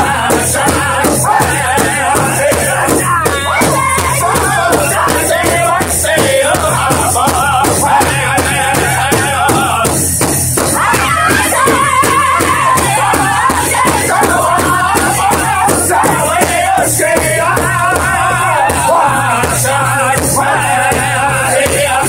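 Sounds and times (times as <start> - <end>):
bass drum beating: 0.0 - 22.0
men singing together: 0.0 - 22.0.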